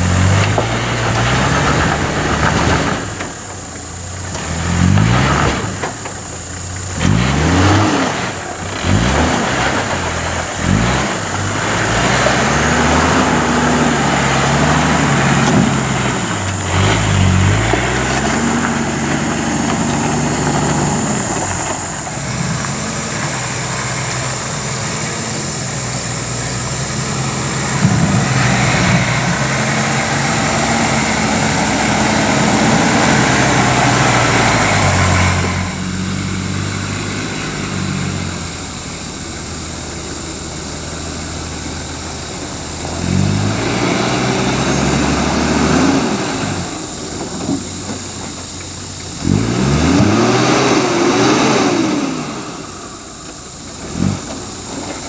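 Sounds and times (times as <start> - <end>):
diesel engine labouring: 0.0 - 55.0.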